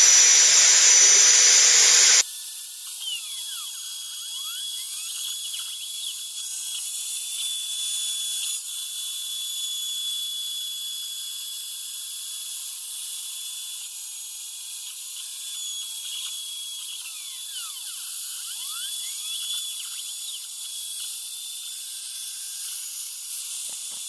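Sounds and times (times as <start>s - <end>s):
router cutting wood whining: 0.0s - 13.8s, 15.0s - 24.0s.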